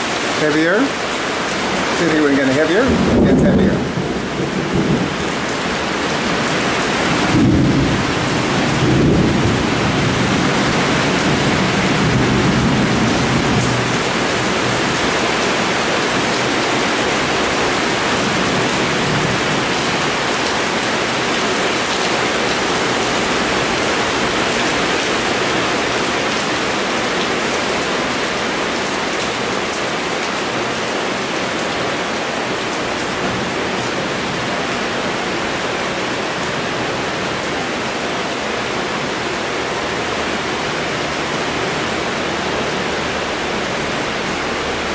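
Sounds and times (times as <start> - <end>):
heavy rain downpour: 0.0 - 44.9.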